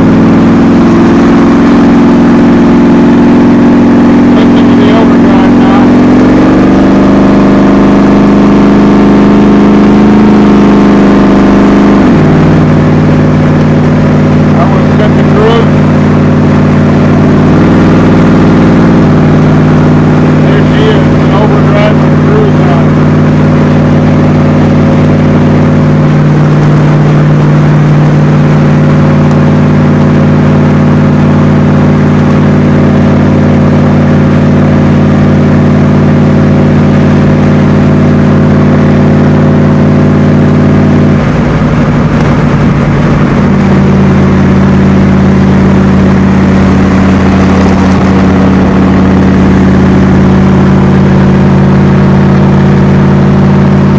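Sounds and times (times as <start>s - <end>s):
car engine cruising: 0.0s - 53.9s.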